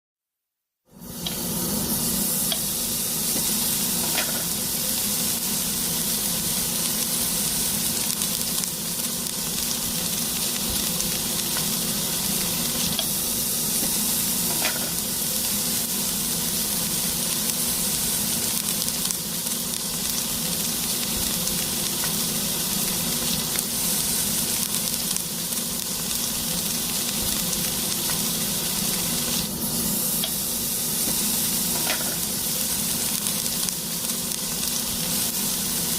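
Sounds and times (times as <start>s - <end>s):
pancakes sizzling in oil: 1.0s - 35.9s.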